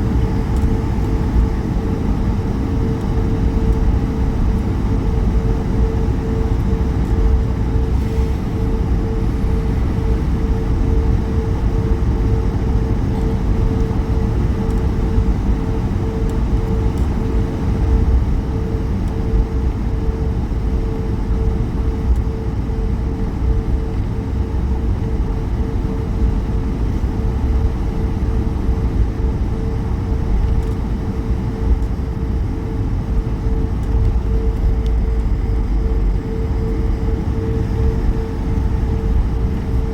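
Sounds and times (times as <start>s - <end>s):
steady engine hum: 0.0s - 21.6s, 25.0s - 39.9s
aircraft cabin rumble: 0.0s - 39.9s.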